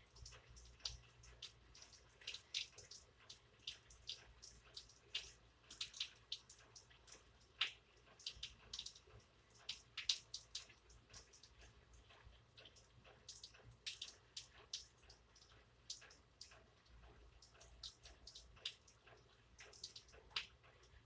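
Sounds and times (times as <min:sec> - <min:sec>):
rain dripping: 0:00.0 - 0:21.0.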